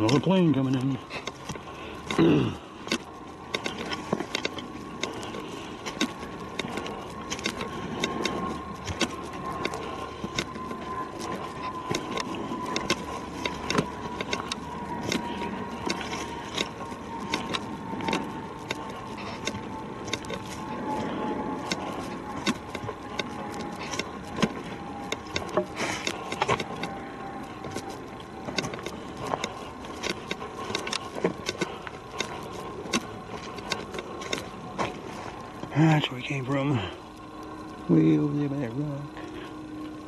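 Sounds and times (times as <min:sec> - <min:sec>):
airplane drone overhead: 0:00.0 - 0:40.0
footsteps crunching on trail: 0:00.0 - 0:40.0.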